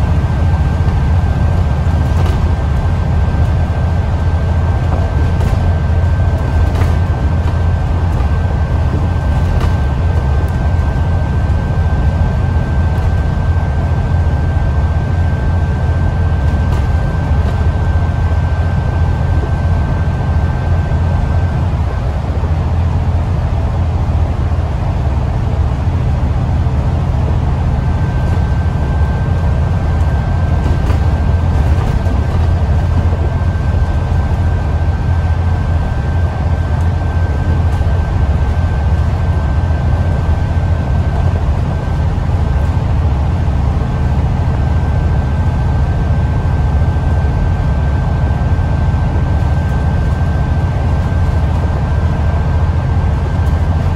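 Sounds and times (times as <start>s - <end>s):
bus engine and road rumble: 0.0s - 53.9s
faint high whine: 0.0s - 53.9s.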